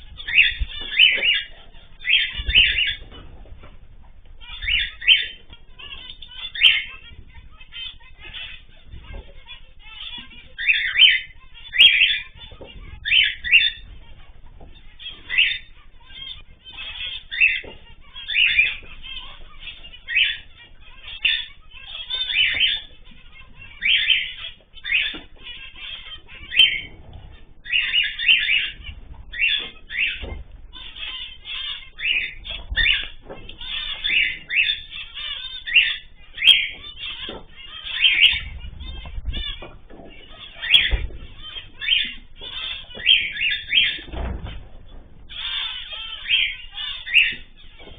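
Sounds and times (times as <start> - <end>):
cage birds chirping: 0.0 - 47.9.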